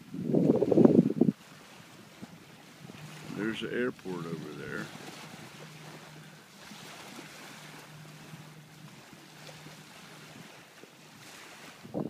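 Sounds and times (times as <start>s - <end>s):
light wind: 0.0s - 12.0s
small waves lapping on shore: 0.0s - 12.0s.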